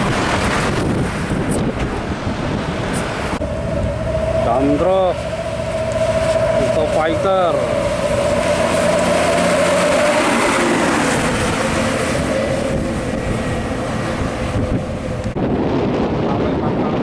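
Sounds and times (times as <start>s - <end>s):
truck engine passing: 0.0s - 16.1s
tyre and road noise: 0.0s - 16.5s.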